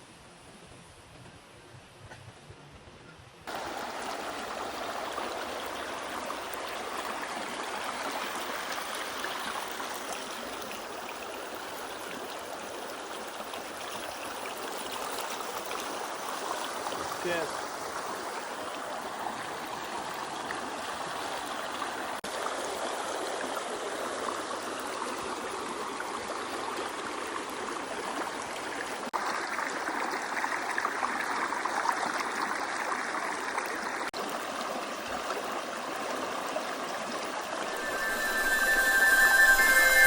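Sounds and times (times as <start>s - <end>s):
stream water rushing: 3.5s - 40.0s.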